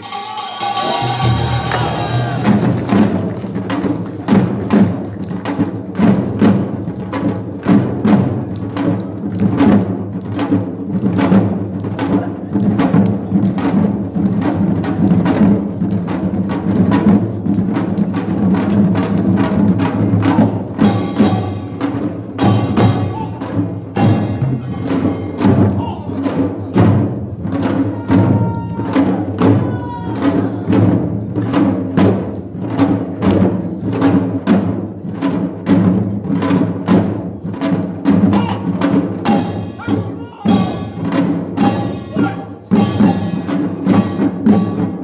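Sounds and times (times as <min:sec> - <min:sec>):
drums and gongs beating: 0:00.0 - 0:45.0.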